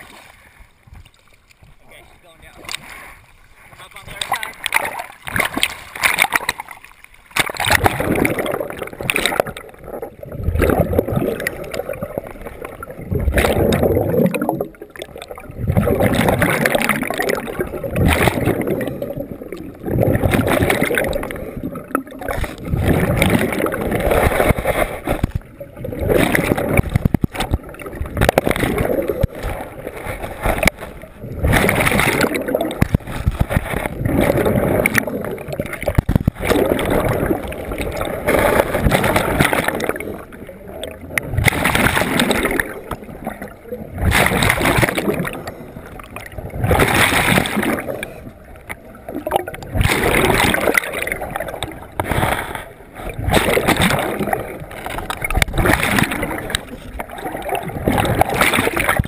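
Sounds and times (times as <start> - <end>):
gurgling exhaled bubbles: 4.0 - 59.0.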